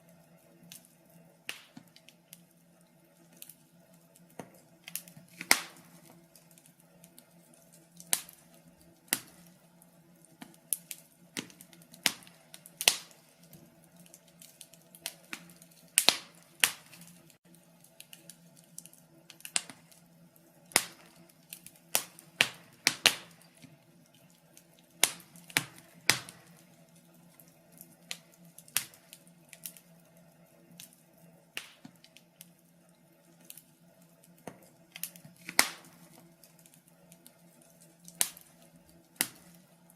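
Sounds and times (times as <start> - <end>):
faint steady hum: 0.0 - 39.9
wood fire crackling: 0.0 - 39.9
fire pops and snaps: 0.6 - 30.0, 30.8 - 32.6, 33.2 - 39.9.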